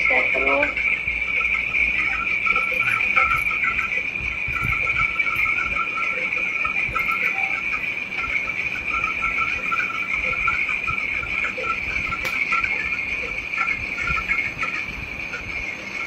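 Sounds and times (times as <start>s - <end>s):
high-pitched insect trill: 0.0s - 16.0s
lower irregular insect chirping: 0.0s - 16.0s.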